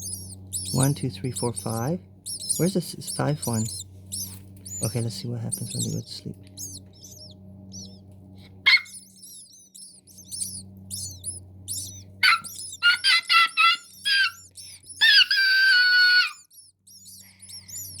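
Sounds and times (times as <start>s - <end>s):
louder lower bird calls: 0.0s - 18.0s
nestling birds cheeping: 0.0s - 18.0s.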